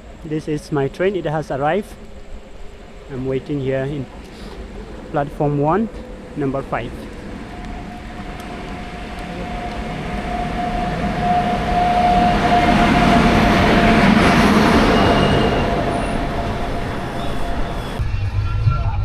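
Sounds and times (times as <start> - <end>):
high-pitched squeal: 0.0 - 19.0
train rumbling past: 0.0 - 19.0.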